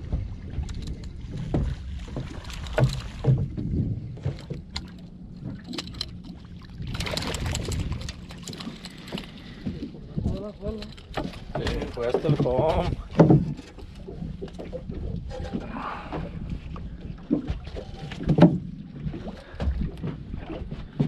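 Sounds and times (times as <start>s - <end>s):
low rumble: 0.0s - 17.8s
knocks and clunks of small boat: 0.0s - 21.0s.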